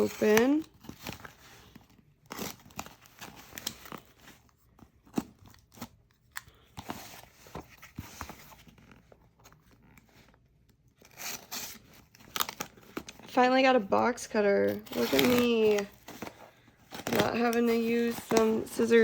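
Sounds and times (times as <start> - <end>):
packaging crinkling and rustling: 0.0 - 13.4, 14.5 - 19.0.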